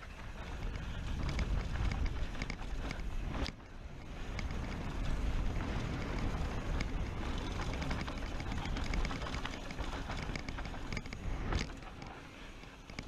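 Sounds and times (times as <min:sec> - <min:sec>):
bike rattling and clicking: 0:00.0 - 0:13.0
bike tyre noise: 0:00.0 - 0:13.0
wind rumble on microphone: 0:00.0 - 0:13.0.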